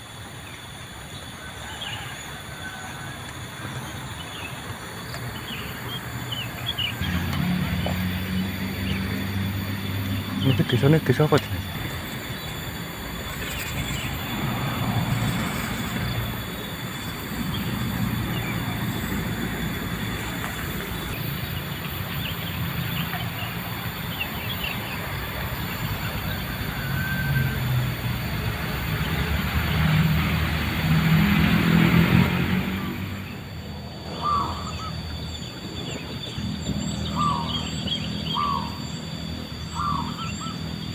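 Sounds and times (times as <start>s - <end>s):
low engine rumble: 2.1s - 40.9s.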